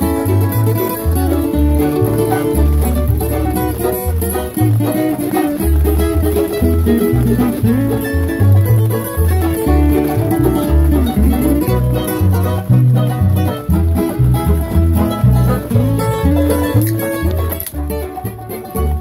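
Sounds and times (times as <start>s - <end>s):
acoustic guitar: 0.0s - 19.0s
banjo picking: 0.0s - 19.0s
mandolin picking: 0.0s - 19.0s
upright bass plucking: 0.0s - 19.0s.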